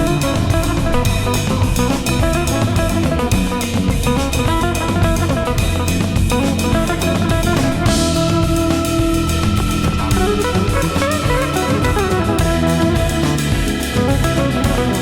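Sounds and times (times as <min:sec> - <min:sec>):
music with guitar and drums: 0:00.0 - 0:15.0.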